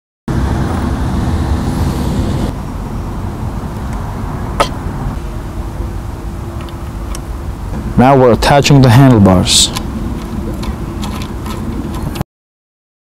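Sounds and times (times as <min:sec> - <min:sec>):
low road traffic rumble: 0:00.3 - 0:12.2.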